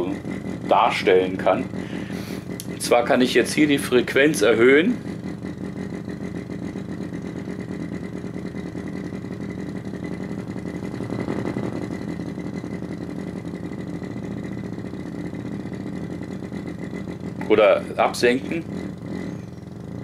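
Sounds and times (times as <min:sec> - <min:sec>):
low synthetic engine throb: 0:00.0 - 0:20.0.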